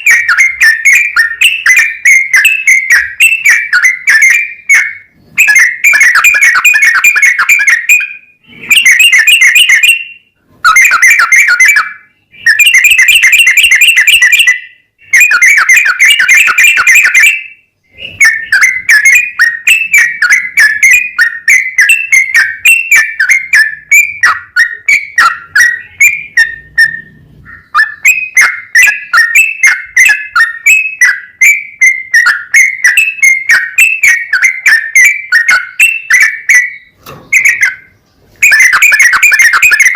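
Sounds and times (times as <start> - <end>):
bird singing rapid notes: 0.0 - 39.9.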